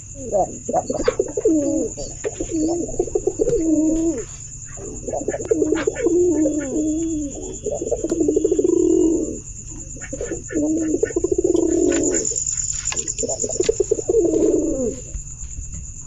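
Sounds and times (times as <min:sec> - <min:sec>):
pigeon cooing: 0:00.0 - 0:15.2.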